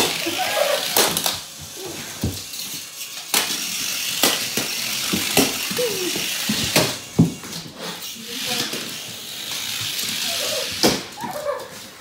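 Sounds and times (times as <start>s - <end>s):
puppy claws on tiled floor: 0.0s - 12.0s.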